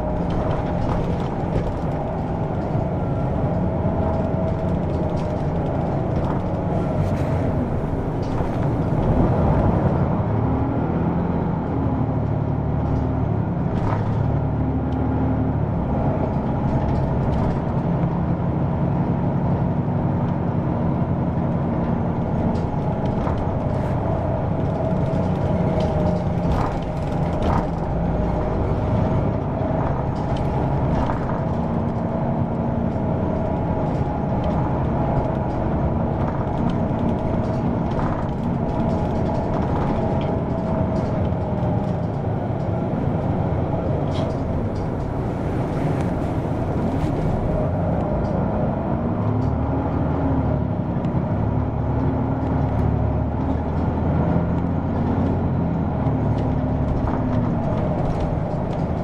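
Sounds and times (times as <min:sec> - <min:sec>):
diesel bus engine drone: 0:00.0 - 0:59.0.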